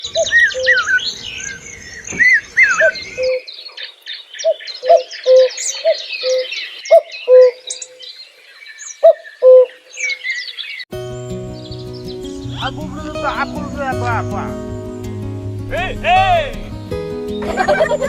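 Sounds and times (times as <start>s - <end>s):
birds chirping and twittering: 0.0s - 18.0s.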